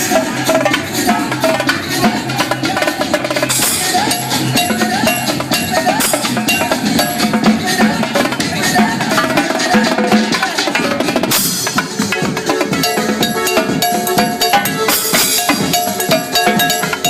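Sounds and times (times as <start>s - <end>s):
pulsing bass line: 0.0s - 9.2s, 12.2s - 17.0s
dance music: 0.0s - 17.0s.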